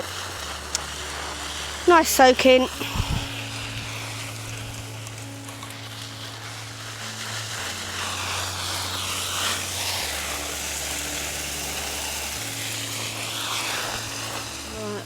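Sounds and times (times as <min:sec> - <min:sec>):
background music with low notes: 0:00.0 - 0:15.0
water spraying from hose: 0:00.0 - 0:15.0.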